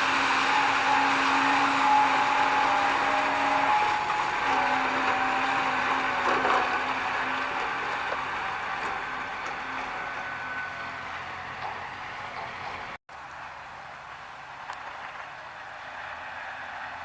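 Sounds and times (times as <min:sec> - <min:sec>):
wood chipper whining: 0:00.0 - 0:17.0.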